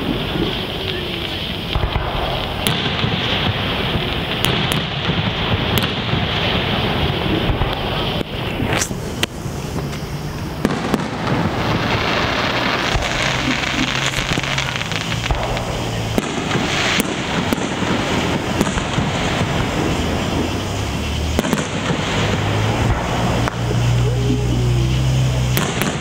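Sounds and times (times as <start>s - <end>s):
firework crackling: 0.0s - 26.0s
firework shells bursting: 0.0s - 26.0s.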